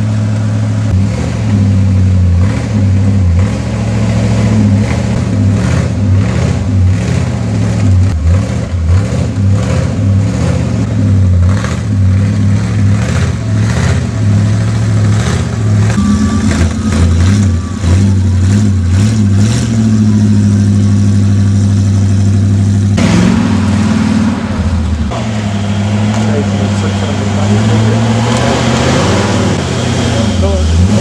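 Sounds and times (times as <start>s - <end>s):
off-road truck engine revving: 0.0s - 31.0s.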